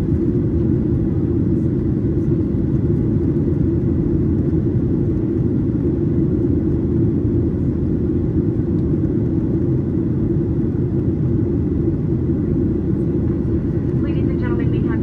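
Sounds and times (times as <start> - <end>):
faint steady whine: 0.0 - 15.0
jet engine rumble in cabin: 0.0 - 15.0.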